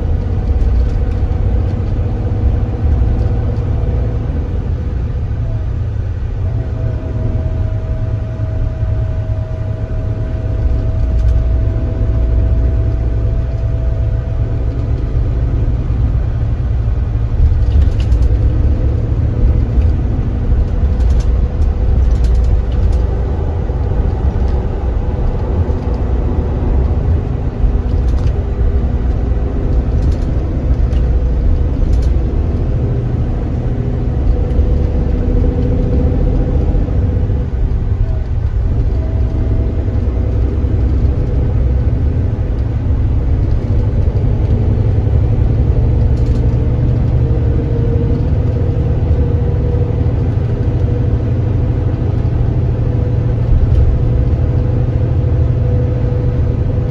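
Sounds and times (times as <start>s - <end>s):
light clicks and rattles: 0.0s - 4.0s, 10.4s - 16.4s, 17.1s - 55.0s
faint whine: 0.0s - 46.7s
diesel engine rumble: 0.0s - 56.9s.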